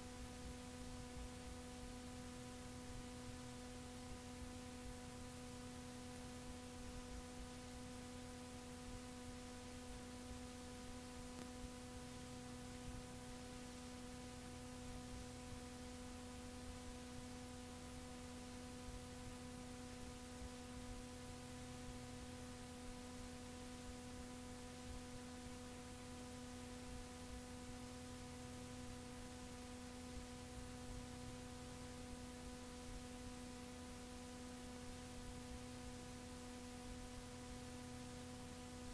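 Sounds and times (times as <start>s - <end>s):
faint electrical hum: 0.0s - 38.9s
tape hiss: 0.0s - 38.9s.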